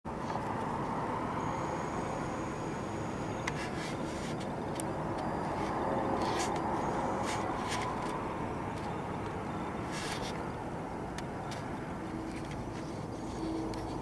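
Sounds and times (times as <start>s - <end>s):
distant city traffic hum: 0.1s - 14.0s.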